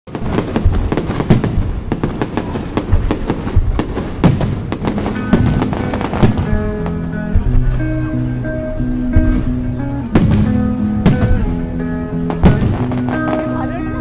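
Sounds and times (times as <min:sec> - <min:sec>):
deep fireworks booms: 0:00.1 - 0:14.0
fireworks bangs and crackles: 0:00.1 - 0:14.0
music with long held notes: 0:00.1 - 0:14.0.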